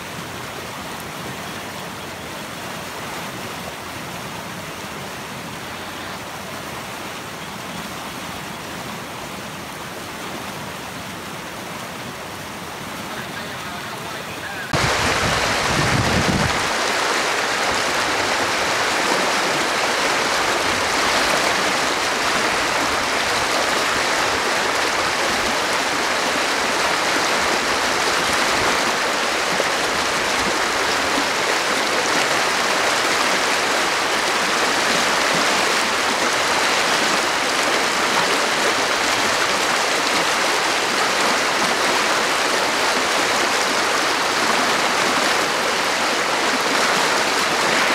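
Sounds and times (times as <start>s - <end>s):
flooded creek rushing: 0.0s - 47.9s.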